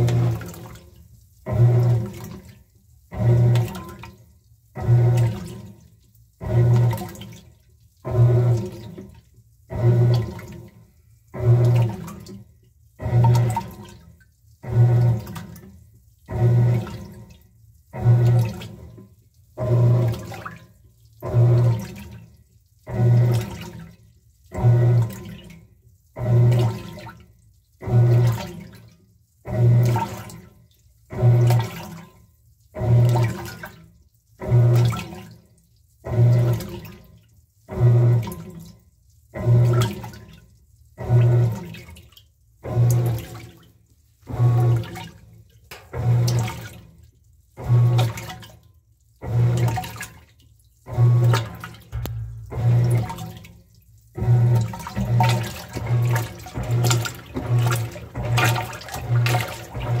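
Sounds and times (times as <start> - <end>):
washing machine motor hum: 0.0 - 60.0
water sloshing in tub: 0.0 - 60.0.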